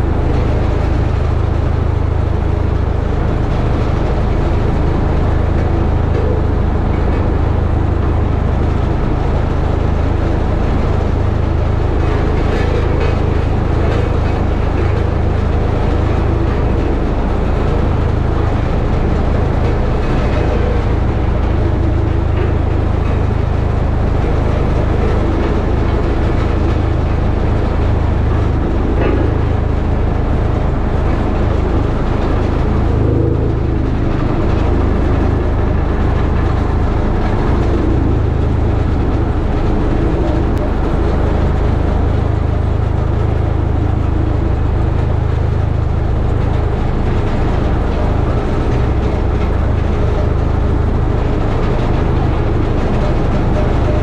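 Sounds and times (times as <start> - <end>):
roller engine humming: 0.0 - 54.0.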